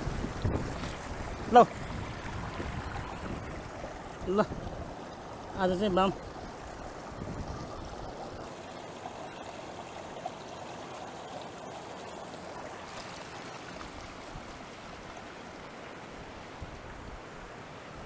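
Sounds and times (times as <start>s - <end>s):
river water running over stones: 0.0s - 18.0s.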